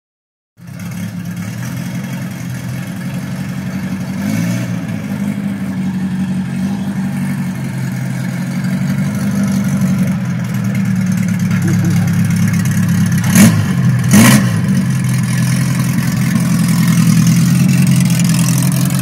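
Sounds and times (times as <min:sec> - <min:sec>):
truck engine running at low revs: 0:00.6 - 0:19.0.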